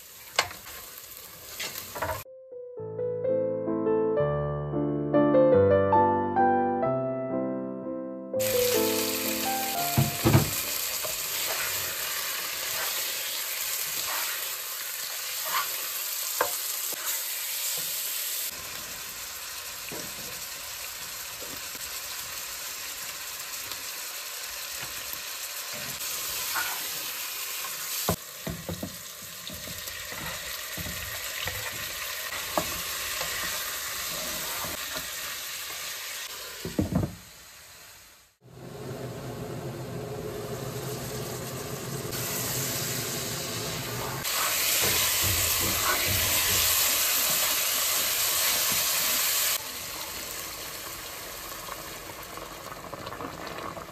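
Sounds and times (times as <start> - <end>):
beef sizzling in hot oil: 0.0 - 2.3, 8.4 - 38.4, 40.4 - 53.9.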